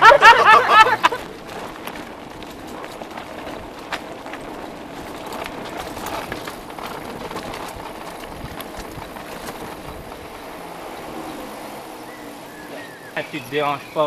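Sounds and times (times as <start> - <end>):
bike tyres rolling on dirt: 0.0 - 14.0
bike rattling clicks: 1.0 - 13.2.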